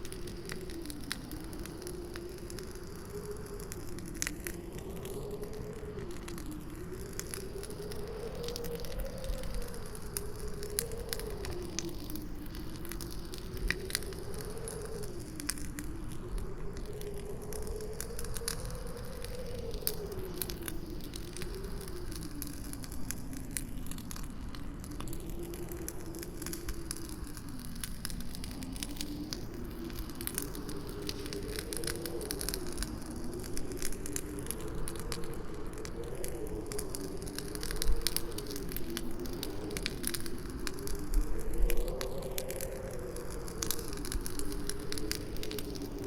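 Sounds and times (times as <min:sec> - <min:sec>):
campfire crackling and popping: 0:00.0 - 0:46.0
howling wind: 0:00.0 - 0:46.0.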